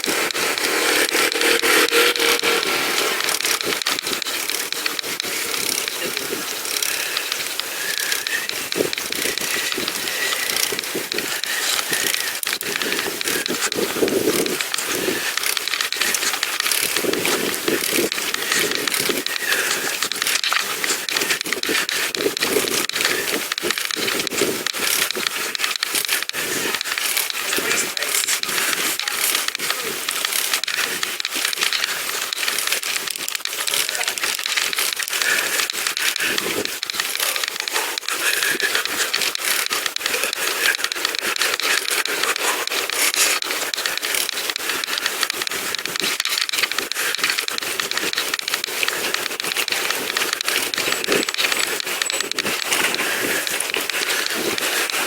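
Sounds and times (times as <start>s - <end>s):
bicycle ride noise: 0.0s - 55.0s.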